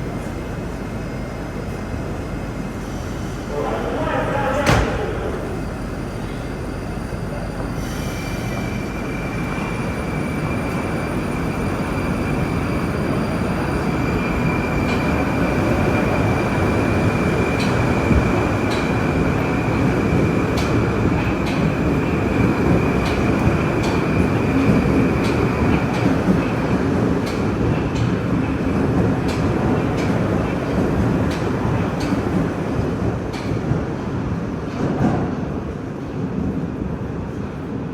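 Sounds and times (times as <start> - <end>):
metro train rumble: 0.0 - 37.9.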